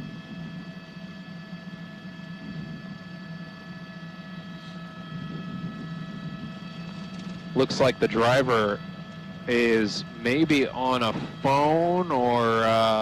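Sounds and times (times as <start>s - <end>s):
helicopter cabin drone: 0.0s - 13.0s.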